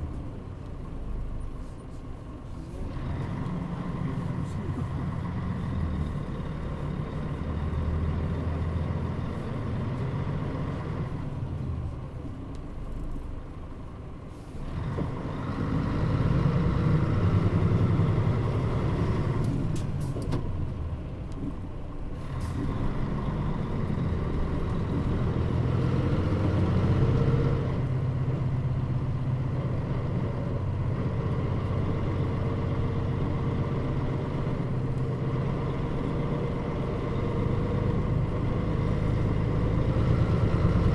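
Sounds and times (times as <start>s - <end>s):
bus engine running: 0.0s - 40.9s.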